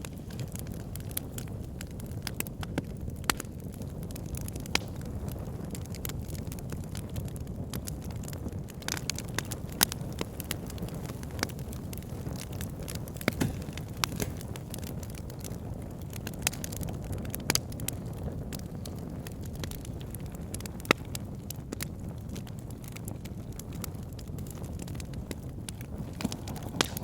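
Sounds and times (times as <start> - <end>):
burning wood crackling and popping: 0.0 - 27.0
campfire flames rumbling: 0.0 - 27.0.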